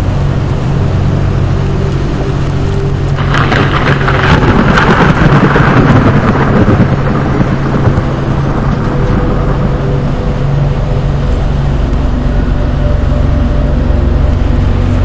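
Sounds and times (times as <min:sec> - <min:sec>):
loud rushing crackling noise: 0:00.0 - 0:15.0
road noise: 0:00.0 - 0:15.0
vehicle engine: 0:00.0 - 0:15.0.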